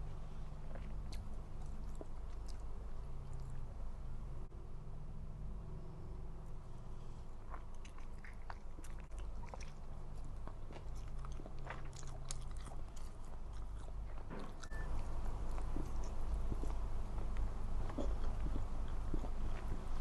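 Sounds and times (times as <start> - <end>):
steady low hum: 0.0 - 20.0
person chewing food: 0.3 - 3.8, 7.0 - 20.0.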